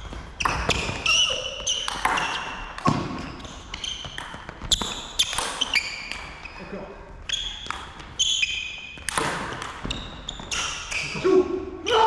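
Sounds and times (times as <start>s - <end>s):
sneakers squeaking on wooden floor: 0.0s - 11.4s.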